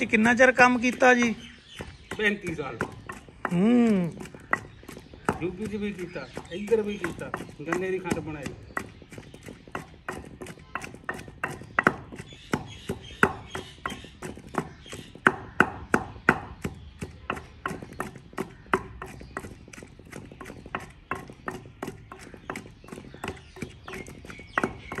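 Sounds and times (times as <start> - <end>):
pestle pounding wet paste: 0.0 - 25.0.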